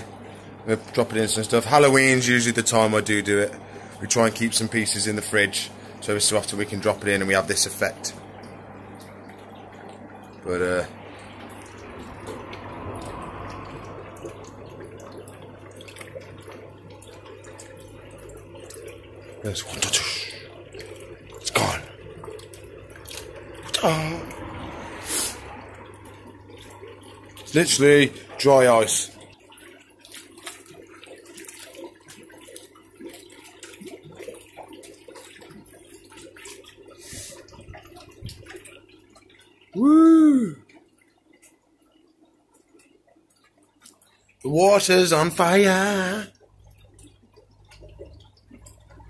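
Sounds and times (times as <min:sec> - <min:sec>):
dry ice bubbling in water: 0:00.0 - 0:49.0
low steady hum: 0:00.0 - 0:49.0.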